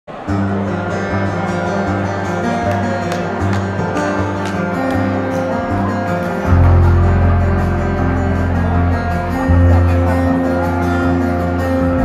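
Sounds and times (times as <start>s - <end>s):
acoustic guitar picking: 0.2s - 12.0s.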